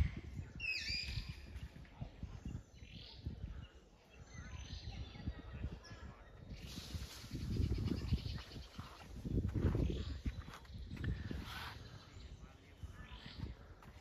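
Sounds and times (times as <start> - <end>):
faint bird chirps: 0.0 - 13.8
low rumbling microphone noise: 0.0 - 14.0.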